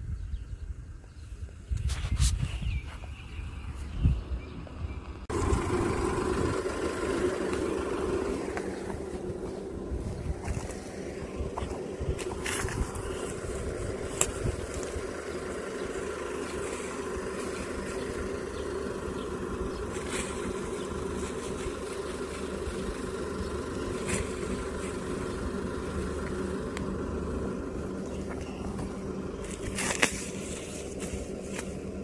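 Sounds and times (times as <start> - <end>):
mechanical engine hum: 0.0 - 32.0.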